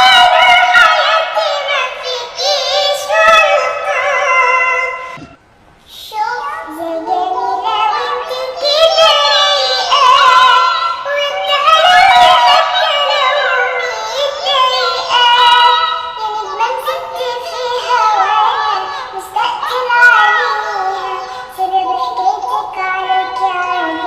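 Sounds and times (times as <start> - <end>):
high-pitched synthetic singing: 0.0 - 5.4, 6.0 - 24.0.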